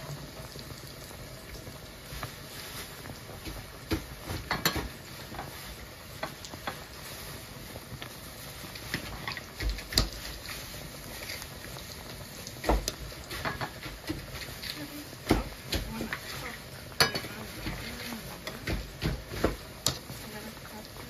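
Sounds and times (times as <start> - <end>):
water boiling and bubbling: 0.0 - 21.0.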